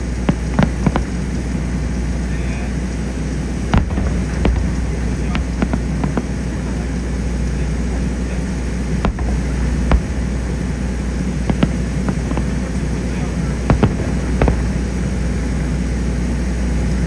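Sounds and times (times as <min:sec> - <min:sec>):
fireworks cracks: 0:00.0 - 0:16.2
distant fireworks rumble: 0:00.0 - 0:17.0.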